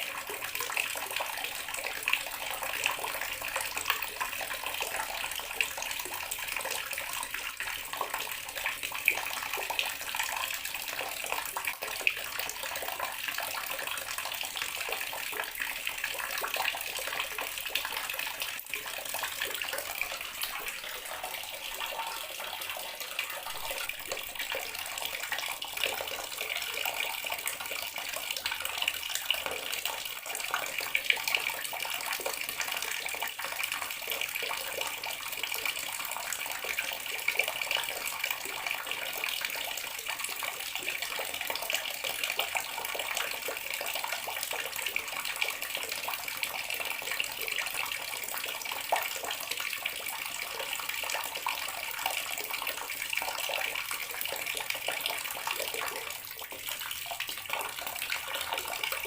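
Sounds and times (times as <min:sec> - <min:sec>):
tap water running into basin: 0:00.0 - 0:59.0.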